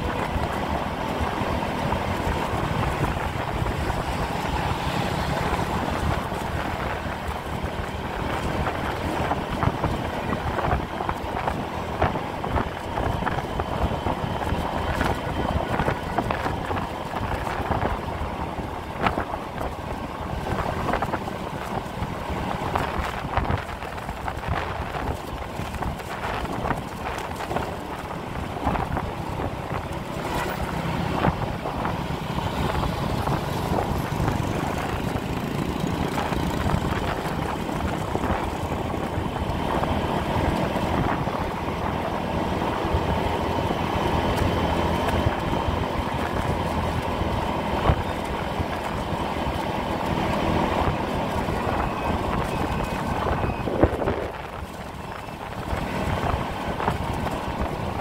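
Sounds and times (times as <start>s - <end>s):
motorbike engine and road noise: 0.0s - 58.0s
wind buffeting microphone: 0.0s - 58.0s.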